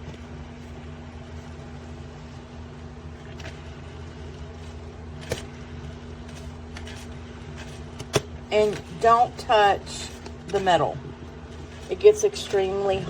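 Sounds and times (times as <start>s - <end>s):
coffee percolator rumble and hum: 0.0s - 13.0s.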